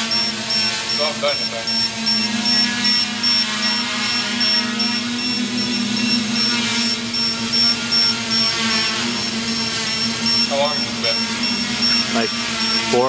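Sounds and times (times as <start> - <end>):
drone propellers buzzing: 0.0 - 13.0
high thin beep: 0.0 - 13.0.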